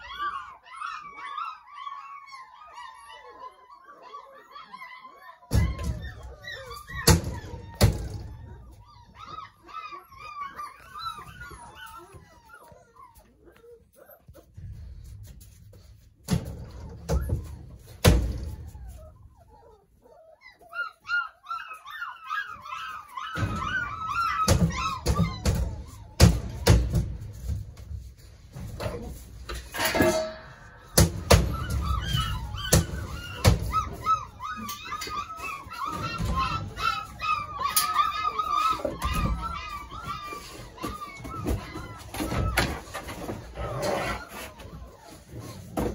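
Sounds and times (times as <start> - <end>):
puppies whining and squealing: 0.0 - 45.9.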